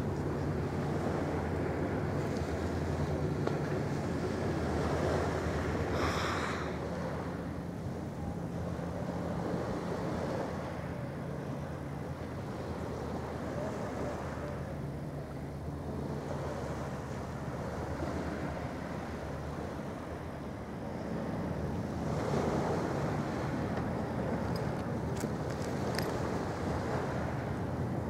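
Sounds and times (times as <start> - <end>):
ferry diesel engines droning: 0.0 - 28.0
wind and water rushing: 0.0 - 28.0.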